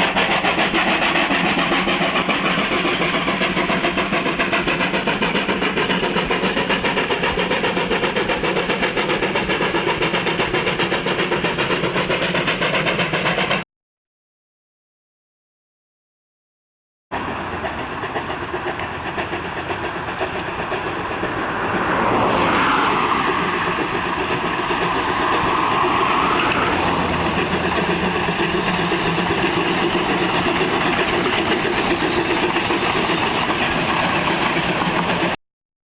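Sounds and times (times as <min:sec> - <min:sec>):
train rumbling on rails: 0:00.0 - 0:13.6, 0:17.1 - 0:35.4
train wheel clatter: 0:00.0 - 0:13.6, 0:17.2 - 0:35.4.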